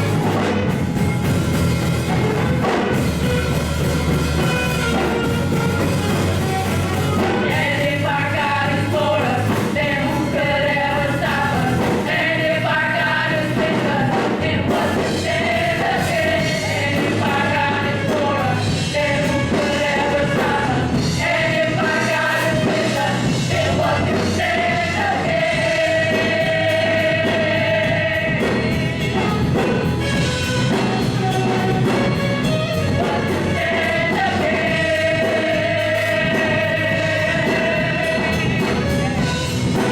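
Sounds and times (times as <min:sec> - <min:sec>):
choir singing gospel: 0:00.0 - 0:39.9
live band with bass and drums: 0:00.0 - 0:39.9.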